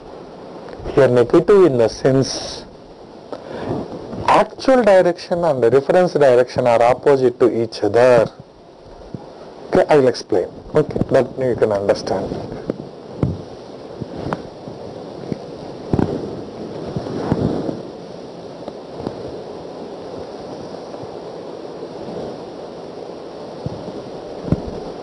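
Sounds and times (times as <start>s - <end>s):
room noise hiss: 0.0s - 25.0s.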